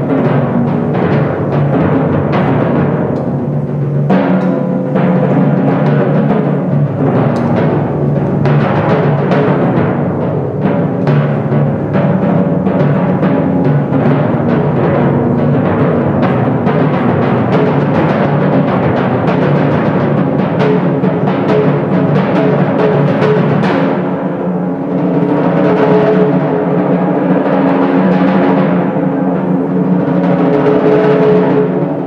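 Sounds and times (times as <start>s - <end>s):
timpani rolling: 0.0s - 32.0s.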